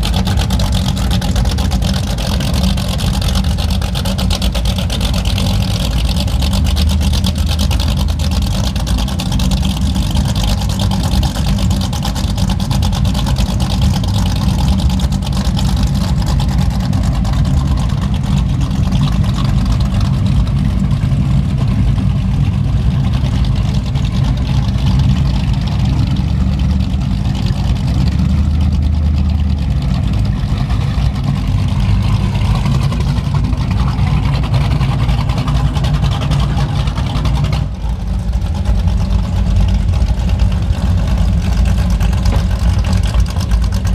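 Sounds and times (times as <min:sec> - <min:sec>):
powerboat engines idling: 0:00.0 - 0:43.9.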